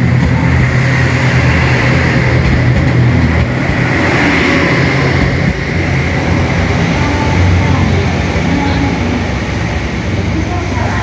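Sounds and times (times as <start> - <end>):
train engine drone: 0.0 - 11.0.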